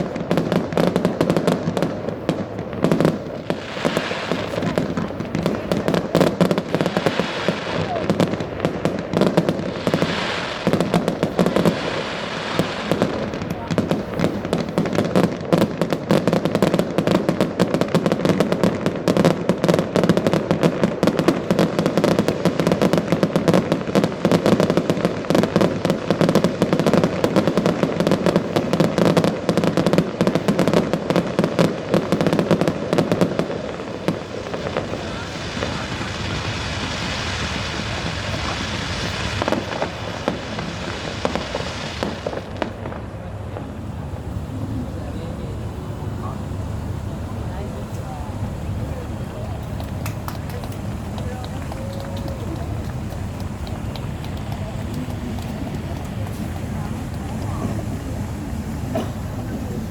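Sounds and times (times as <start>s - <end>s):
fireworks cracking and banging: 0.0s - 59.9s.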